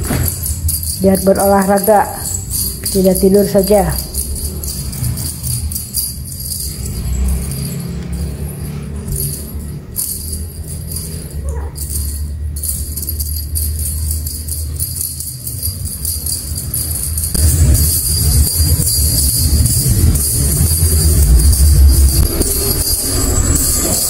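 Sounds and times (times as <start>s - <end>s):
background music with bell-like part: 0.0s - 24.0s.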